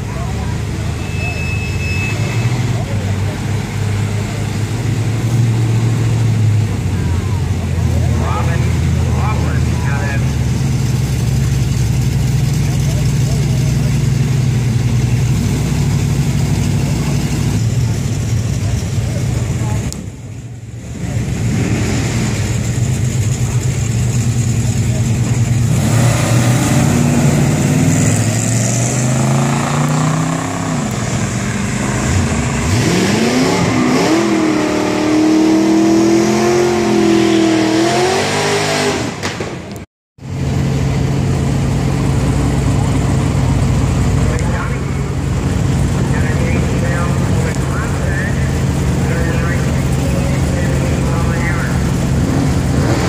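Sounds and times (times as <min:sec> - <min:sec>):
car engines idling: 0:00.0 - 0:38.2, 0:39.1 - 0:53.0
car engines revving and launching: 0:00.0 - 0:53.0.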